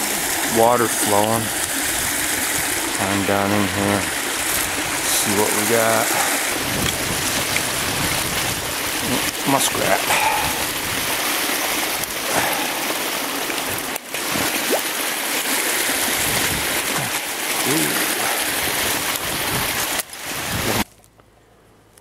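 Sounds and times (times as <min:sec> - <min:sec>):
shallow water rushing: 0:00.0 - 0:20.8
splashing: 0:00.0 - 0:20.9.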